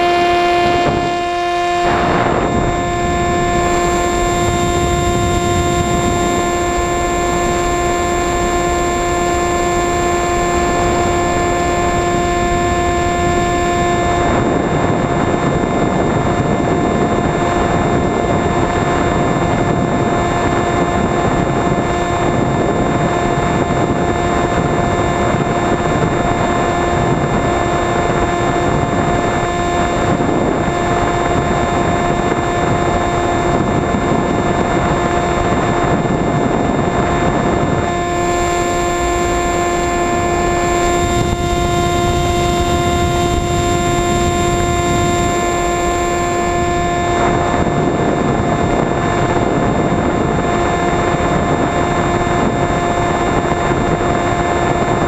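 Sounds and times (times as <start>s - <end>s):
model plane motor droning: 0.0s - 55.0s
rushing wind: 0.0s - 55.0s.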